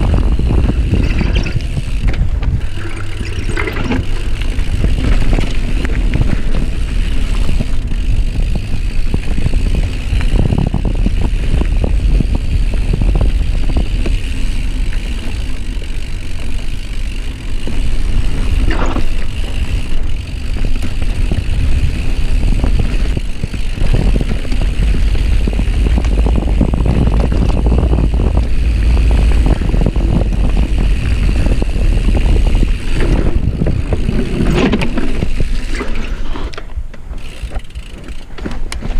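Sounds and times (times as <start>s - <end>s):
bike rattling over bumps: 0.0s - 38.9s
wind buffeting microphone: 0.0s - 38.9s.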